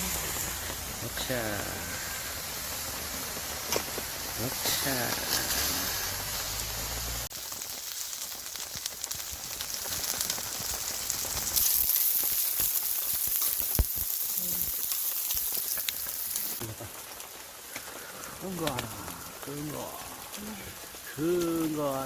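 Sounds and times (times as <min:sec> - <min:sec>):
food sizzling on a hot pan: 0:00.0 - 0:22.0.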